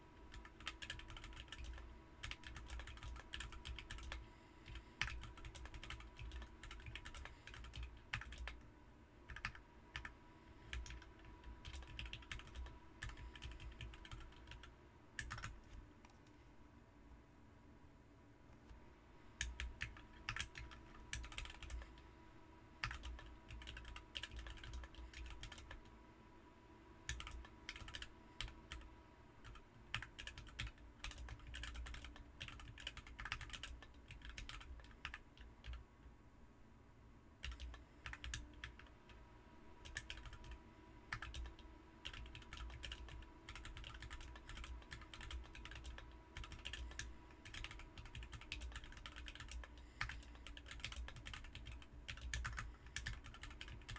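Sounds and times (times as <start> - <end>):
typing on mechanical keyboard: 0.3 - 8.6, 9.3 - 10.1, 10.7 - 15.8, 19.4 - 21.9, 22.8 - 25.8, 27.1 - 35.8, 37.4 - 38.9, 39.8 - 53.9.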